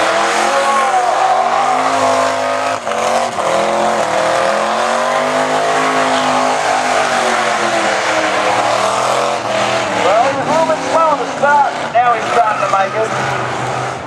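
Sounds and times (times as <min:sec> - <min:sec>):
car engine at high revs: 0:00.0 - 0:14.0
tyres spinning and screeching: 0:00.0 - 0:14.0.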